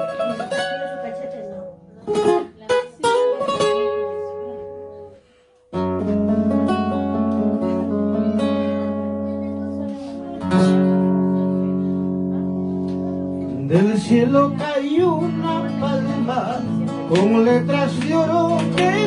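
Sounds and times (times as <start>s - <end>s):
plucked guitar notes: 0.0s - 19.0s
strummed guitar chords: 0.0s - 19.0s.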